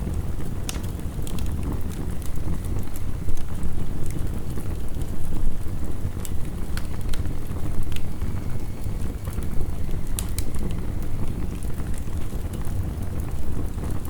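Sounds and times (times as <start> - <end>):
heavy rain: 0.0 - 14.0
wood fire crackling: 0.0 - 14.0.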